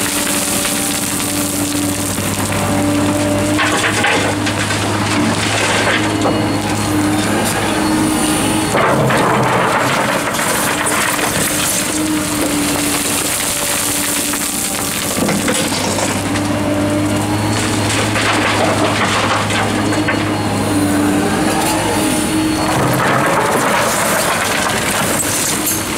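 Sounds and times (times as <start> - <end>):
excavator diesel engine working: 0.0 - 25.9
gravel and stones crunching: 0.0 - 25.9.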